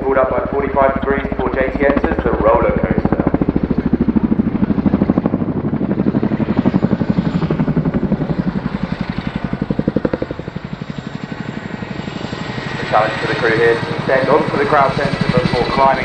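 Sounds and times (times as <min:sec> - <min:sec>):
helicopter rotor blade slap: 0:00.0 - 0:16.0.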